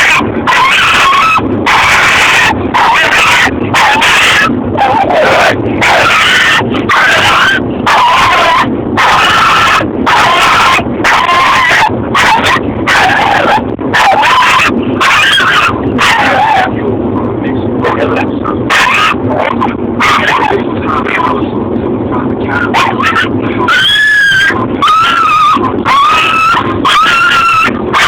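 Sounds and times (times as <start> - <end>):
dog barking and yelping: 0.0 - 16.8, 17.8 - 21.3, 22.5 - 28.0.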